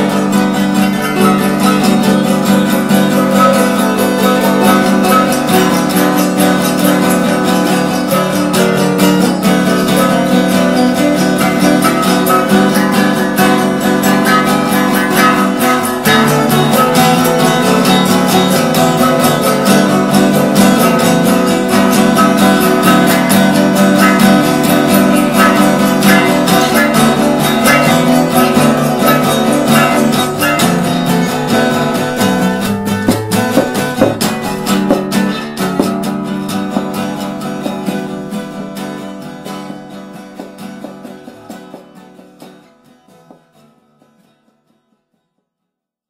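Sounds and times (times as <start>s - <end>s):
guitar band music strummed: 0.0s - 45.0s.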